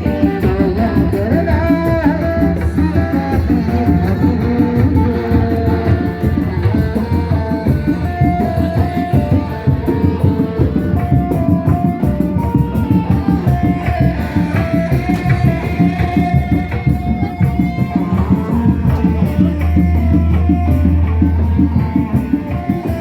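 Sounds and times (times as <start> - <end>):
fast hand drumming: 0.0 - 23.0
melody of held notes: 0.0 - 23.0.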